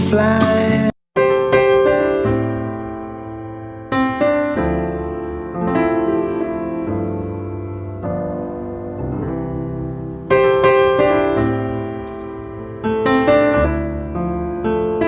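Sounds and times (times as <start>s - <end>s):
gentle piano chords: 1.2s - 15.0s.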